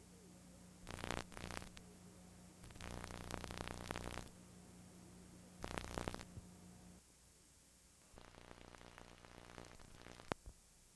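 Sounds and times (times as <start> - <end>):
crackling static: 0.0 - 10.9
tape hiss: 0.0 - 10.9.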